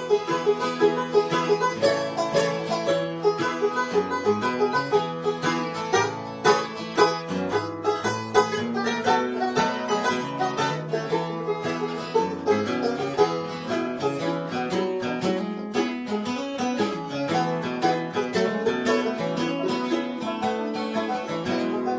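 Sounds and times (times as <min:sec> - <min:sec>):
banjo picking: 0:00.0 - 0:21.9
strummed acoustic guitar: 0:00.0 - 0:21.9.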